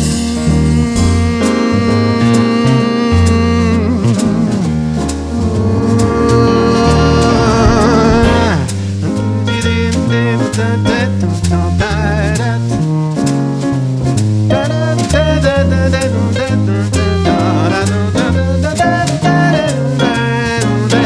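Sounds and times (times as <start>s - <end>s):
bass line: 0.0s - 21.0s
cymbals ticking: 0.0s - 21.0s
piano chords: 0.0s - 21.0s.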